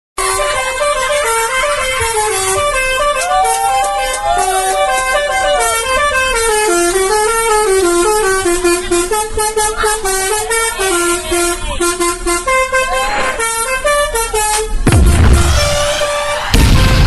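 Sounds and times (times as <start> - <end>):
cartoon tune in honking horn tone: 0.2 - 17.0.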